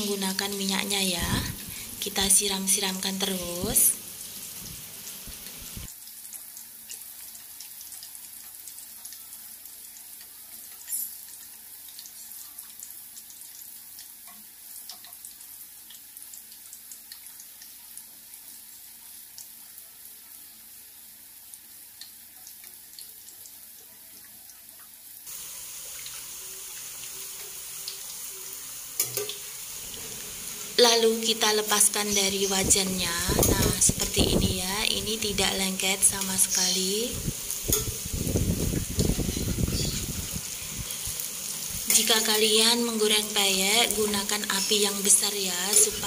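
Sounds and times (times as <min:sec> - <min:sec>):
food deep-frying in oil: 0:00.0 - 0:46.0.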